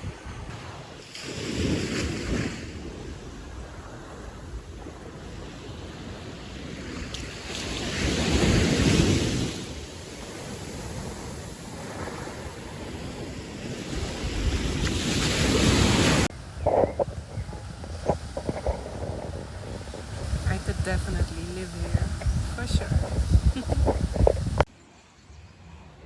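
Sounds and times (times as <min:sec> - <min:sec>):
wind buffeting microphone: 0:00.0 - 0:24.7
sea waves washing ashore: 0:00.0 - 0:25.0.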